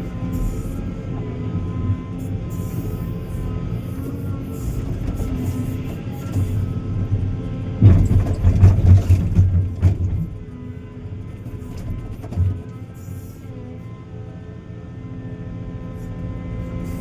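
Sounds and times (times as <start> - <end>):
diesel excavator engine working: 0.0 - 17.0.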